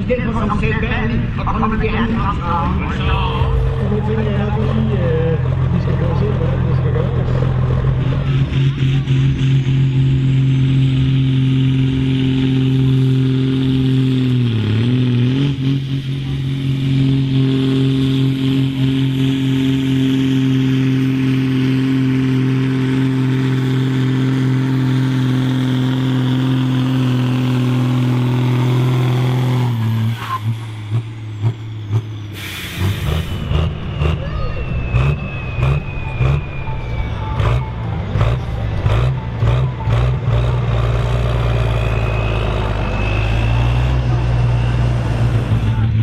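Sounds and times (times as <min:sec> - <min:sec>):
diesel tractor engine at full load: 0:00.0 - 0:46.0.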